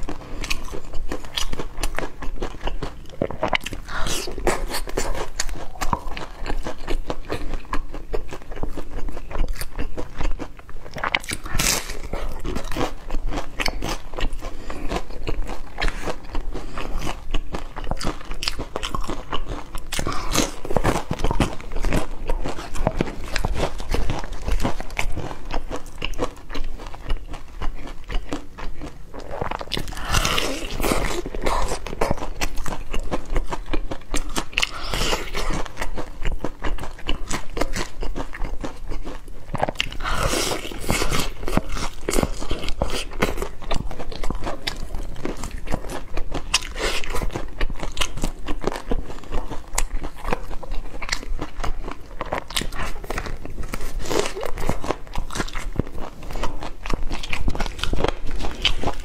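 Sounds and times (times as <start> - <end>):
crunching and chewing fried chicken: 0.0 - 59.0.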